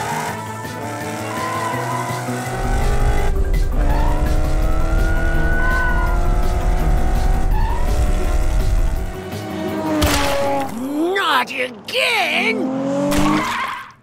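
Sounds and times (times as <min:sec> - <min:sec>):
cartoon race car engine revving: 0:00.0 - 0:11.0, 0:11.7 - 0:14.0.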